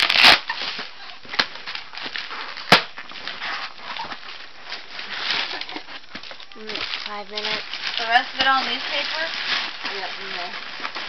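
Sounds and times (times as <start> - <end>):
paper and cardboard rustling: 0.0 - 11.0.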